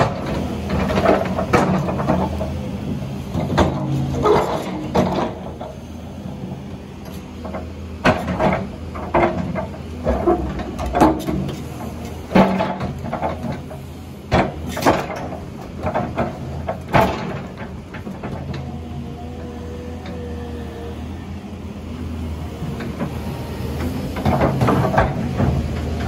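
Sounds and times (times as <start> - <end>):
excavator running: 0.0 - 26.0.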